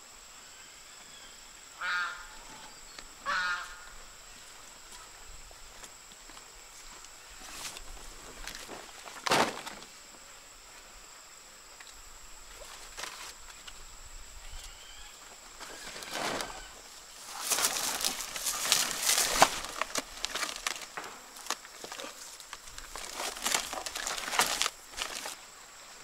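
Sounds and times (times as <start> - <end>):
leaves rustling and crinkling: 2.4 - 10.2, 11.7 - 26.0.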